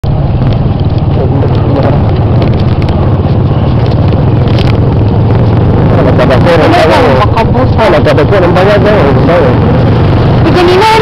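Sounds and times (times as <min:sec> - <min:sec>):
engine running with low rumble: 0:00.0 - 0:11.0.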